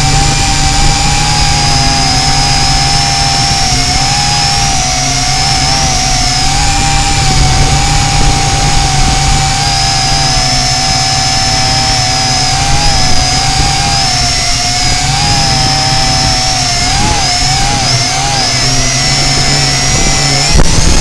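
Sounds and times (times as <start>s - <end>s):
wind rumble on microphone: 0.0s - 18.0s, 18.6s - 21.0s
drone motors whining: 0.0s - 21.0s.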